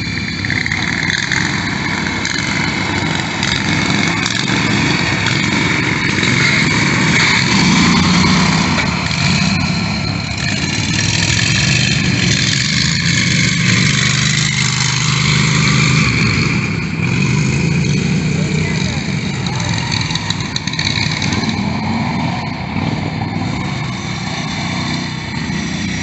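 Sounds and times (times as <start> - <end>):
lawn mower engines revving: 0.0 - 26.0.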